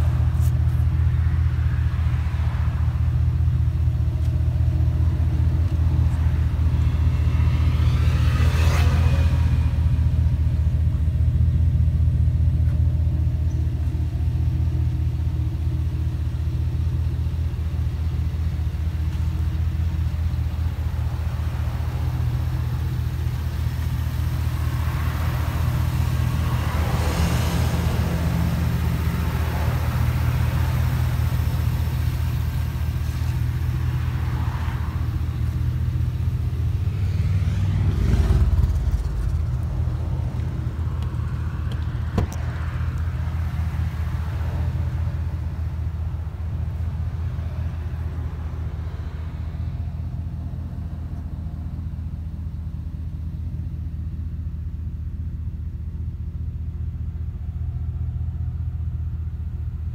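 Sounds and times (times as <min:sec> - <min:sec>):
pickup engine idling: 0:00.0 - 0:59.9.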